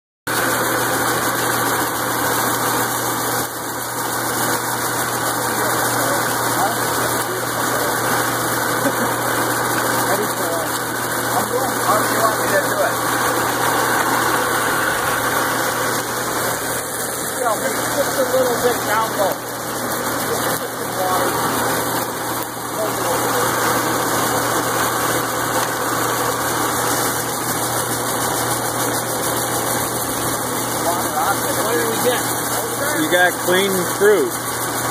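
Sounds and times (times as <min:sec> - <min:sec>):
machine hum: 0:00.3 - 0:34.9
water spraying from a hose: 0:00.3 - 0:34.9.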